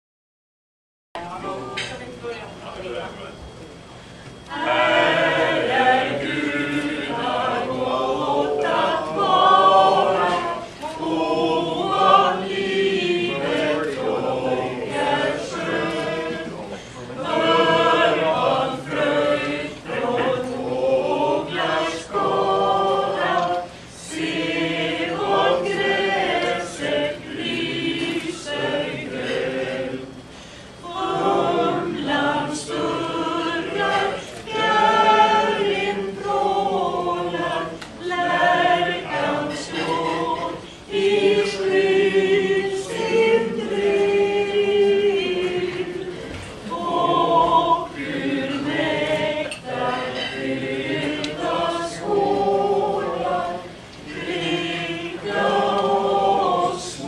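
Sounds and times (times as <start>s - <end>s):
group singing unaccompanied: 1.2s - 2.1s, 4.4s - 57.0s.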